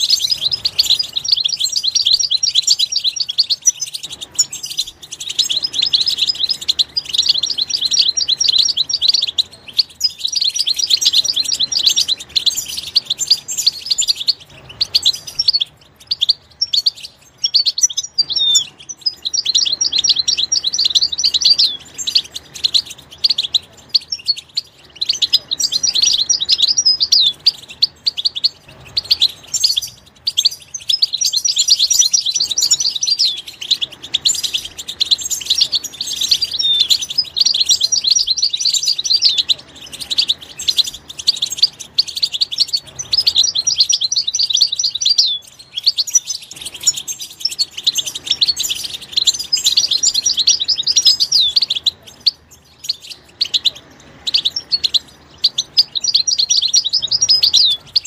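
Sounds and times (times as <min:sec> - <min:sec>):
goldfinch twittering: 0:00.0 - 0:58.0.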